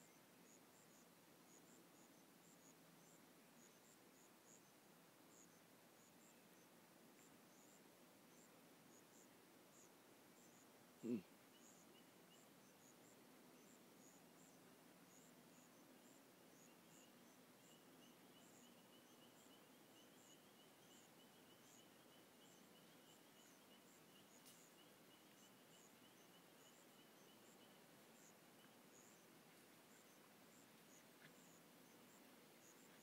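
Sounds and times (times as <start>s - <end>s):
faint insects chirping: 0.0s - 33.0s.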